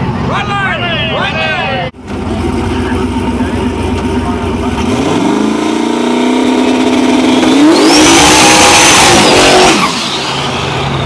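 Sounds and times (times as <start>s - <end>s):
tire noise: 0.0s - 11.0s
race car engine revving: 2.0s - 11.0s.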